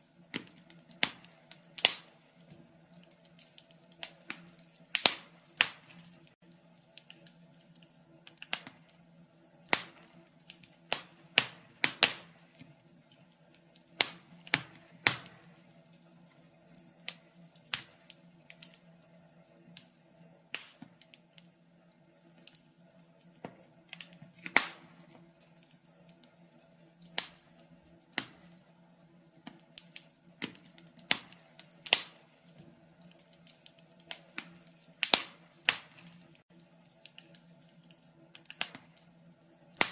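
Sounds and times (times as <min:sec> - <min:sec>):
faint steady hiss: 0:00.0 - 0:39.9
fire crackling in fireplace: 0:00.0 - 0:39.9.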